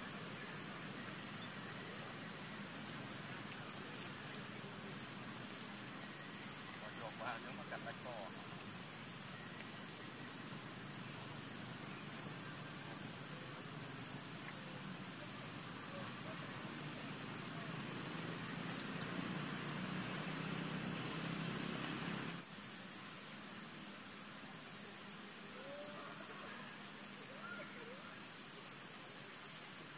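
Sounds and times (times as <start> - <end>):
insects droning: 0.0 - 29.9.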